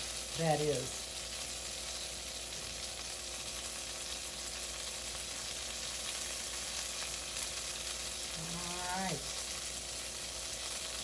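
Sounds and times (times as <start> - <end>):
chicken sizzling in oil: 0.0 - 11.0
utensil turning food in pan: 0.0 - 11.0.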